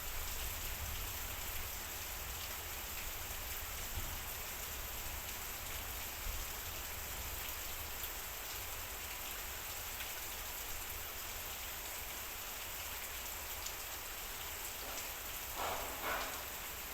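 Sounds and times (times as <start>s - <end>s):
heavy rain on a metal roof: 0.0s - 16.9s.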